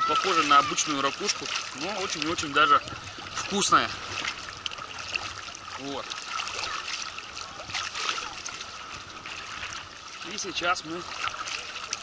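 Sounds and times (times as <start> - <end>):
shallow water trickling: 0.0 - 12.0
small waves lapping and splashing: 0.0 - 12.0.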